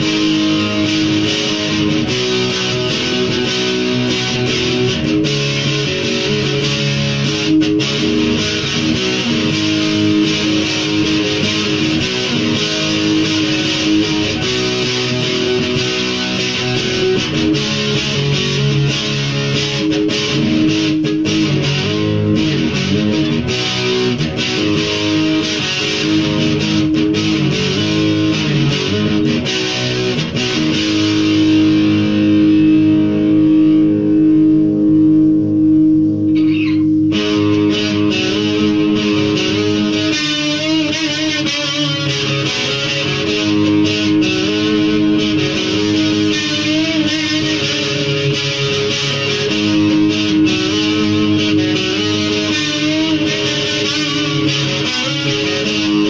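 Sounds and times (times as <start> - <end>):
electric guitar playing: 0.0 - 56.0.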